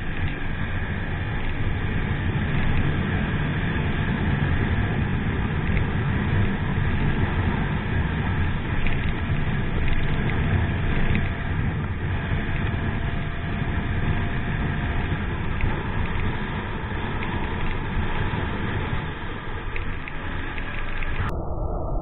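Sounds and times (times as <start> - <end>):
car road and engine noise: 0.0 - 21.4.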